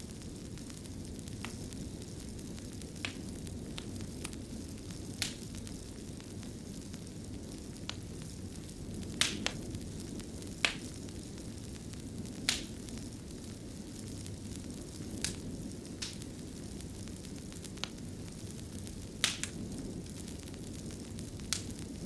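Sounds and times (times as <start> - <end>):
low rush of flame: 0.0 - 22.0
wood fire crackling: 0.0 - 22.0.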